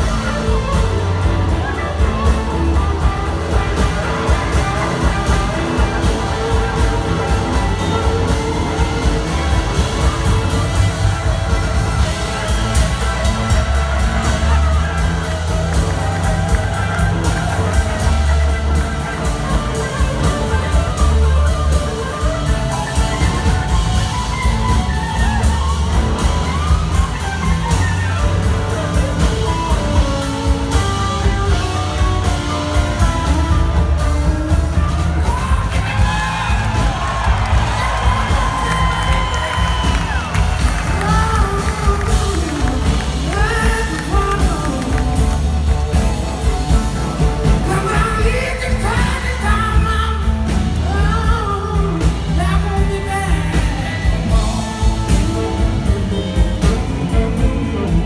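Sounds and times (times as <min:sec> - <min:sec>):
live blues rock band playing: 0:00.0 - 0:58.0.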